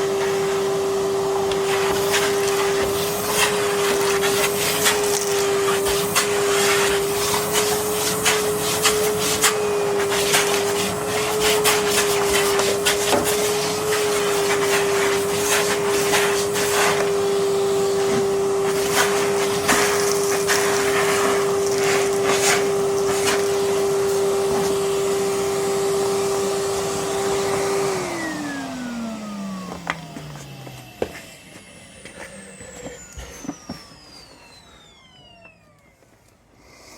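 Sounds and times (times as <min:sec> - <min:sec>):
vacuum cleaner motor whine: 0:00.0 - 0:36.9.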